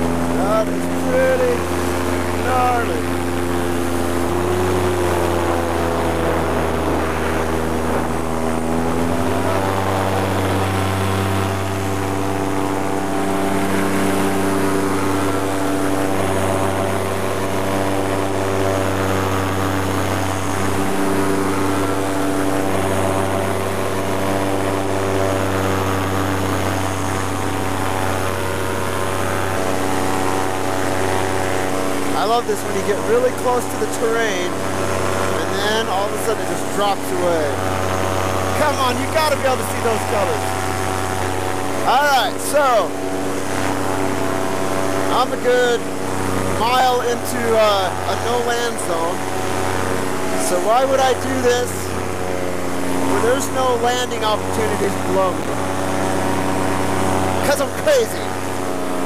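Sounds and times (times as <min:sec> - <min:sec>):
paramotor engine and propeller: 0:00.0 - 0:59.0.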